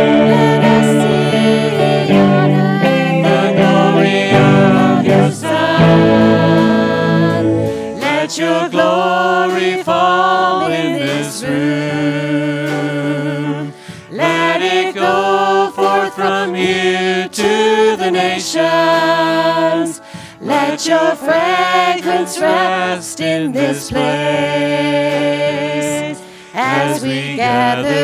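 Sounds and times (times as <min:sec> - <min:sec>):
band playing worship song: 0:00.0 - 0:28.0
woman singing lead: 0:00.0 - 0:28.0.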